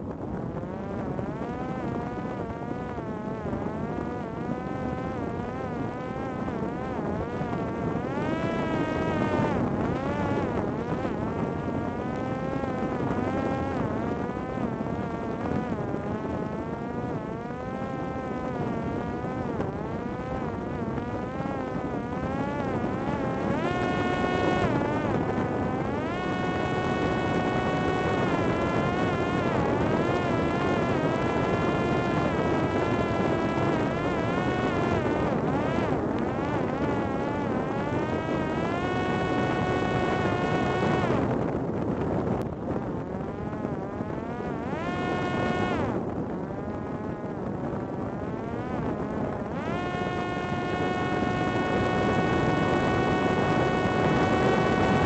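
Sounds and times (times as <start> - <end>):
drone propeller whining: 0.0 - 55.0.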